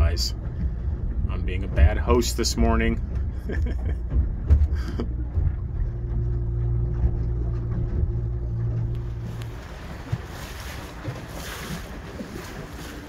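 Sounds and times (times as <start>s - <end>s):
outboard motor low hum: 0.0s - 13.0s.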